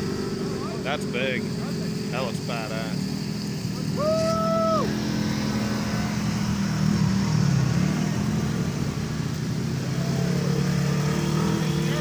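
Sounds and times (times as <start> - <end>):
utv engines driving past: 0.0 - 12.0.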